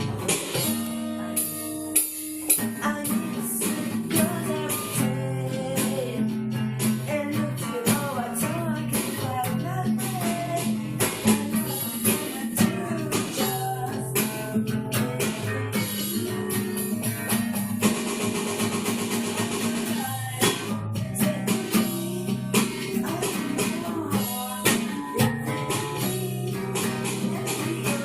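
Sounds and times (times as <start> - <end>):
guitar-led music: 0.0 - 28.0
steady drum beat: 0.0 - 28.0.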